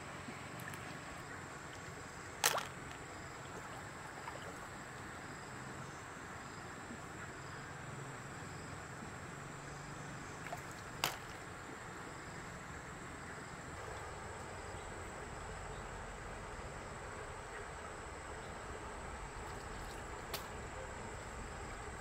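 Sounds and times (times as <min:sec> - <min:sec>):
stream water flowing: 0:00.0 - 0:06.4, 0:10.2 - 0:22.0.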